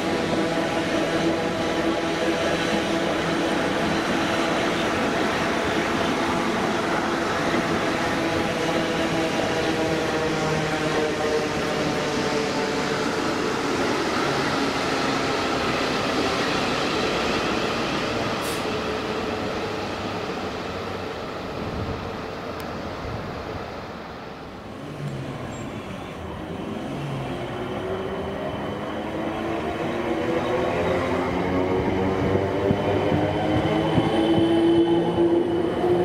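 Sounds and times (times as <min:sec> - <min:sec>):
train rumbling with whine: 0:00.0 - 0:36.0.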